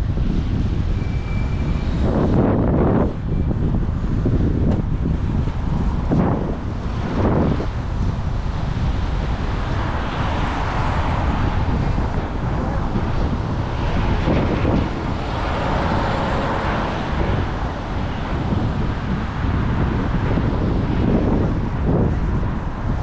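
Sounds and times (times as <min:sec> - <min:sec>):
road traffic noise: 0:00.0 - 0:23.0
wind noise on microphone: 0:00.0 - 0:23.0.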